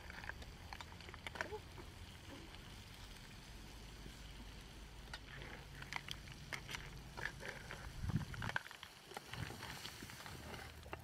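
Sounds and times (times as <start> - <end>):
snail shells clicking: 0.0 - 3.4, 5.0 - 11.0.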